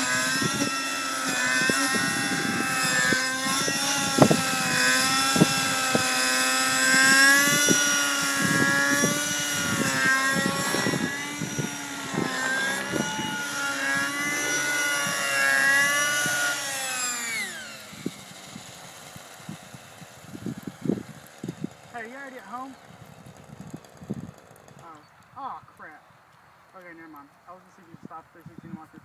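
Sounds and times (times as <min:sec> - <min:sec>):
rc helicopter engine and rotor whine: 0:00.0 - 0:29.0.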